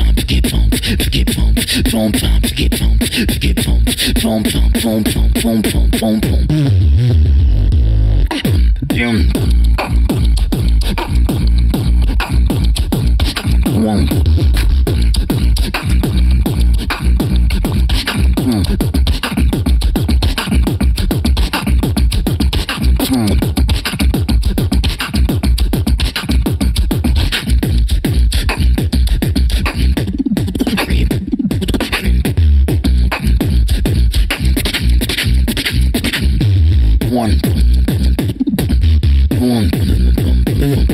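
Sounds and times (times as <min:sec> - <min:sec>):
person beatboxing into microphone: 0:00.0 - 0:40.9.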